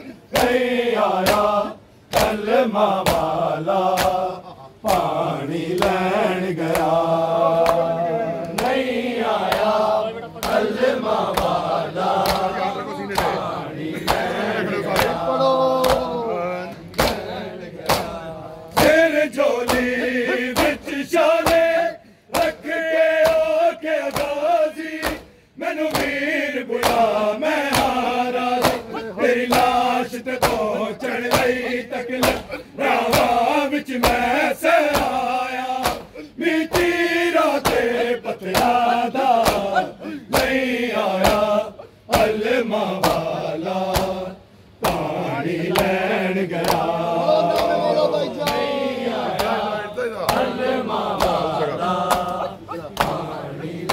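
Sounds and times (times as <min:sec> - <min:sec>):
crowd of men chanting: 0:00.0 - 0:53.9
open-palm chest-beating slaps: 0:00.3 - 0:01.5, 0:02.1 - 0:08.8, 0:09.4 - 0:09.8, 0:10.4 - 0:12.5, 0:13.1 - 0:14.3, 0:14.9 - 0:15.2, 0:15.8 - 0:16.1, 0:16.8 - 0:47.8, 0:49.3 - 0:49.6, 0:50.2 - 0:53.9.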